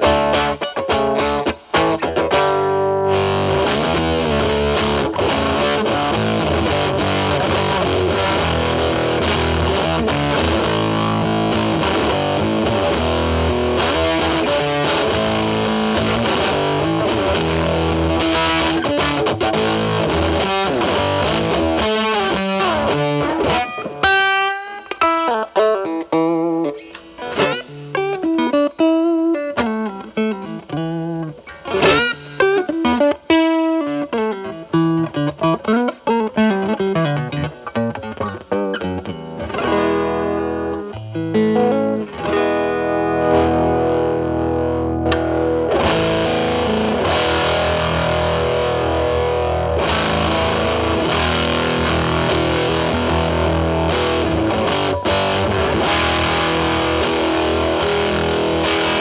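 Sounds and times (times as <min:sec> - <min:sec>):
clean picked guitar notes: 0:00.0 - 0:59.0
electric guitar fuzz: 0:00.0 - 0:59.0.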